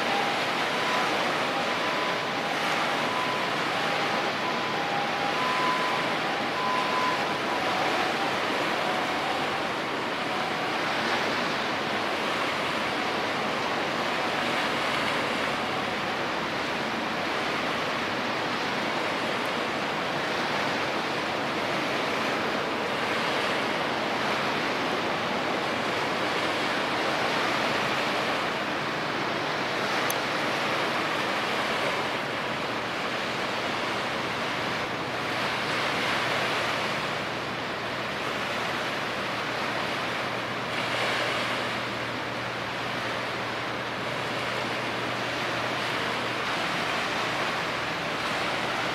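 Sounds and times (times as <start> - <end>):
waves rushing: 0.0 - 48.9
wind: 0.0 - 48.9.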